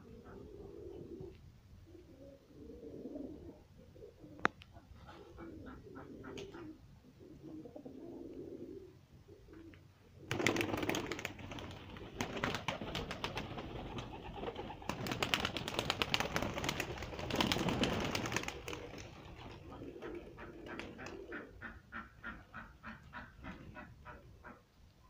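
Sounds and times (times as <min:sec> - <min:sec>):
pigeons cooing: 0:00.0 - 0:24.6.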